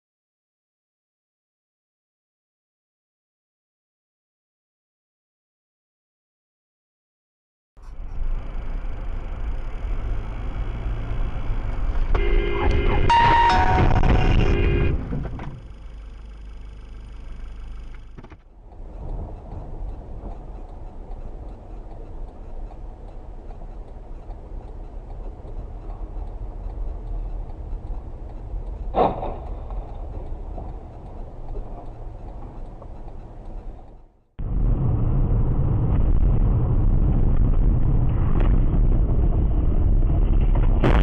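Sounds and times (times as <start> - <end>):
car interior road rumble: 7.8 - 41.0.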